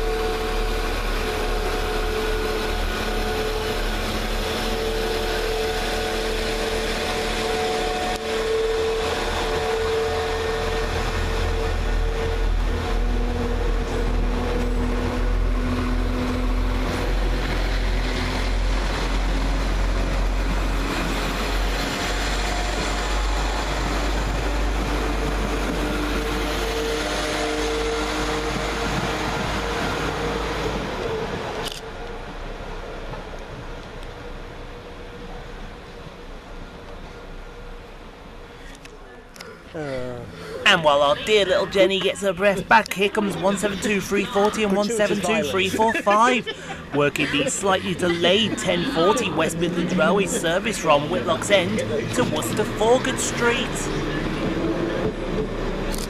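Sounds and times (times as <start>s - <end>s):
diesel train engines rumbling: 0.0s - 56.0s.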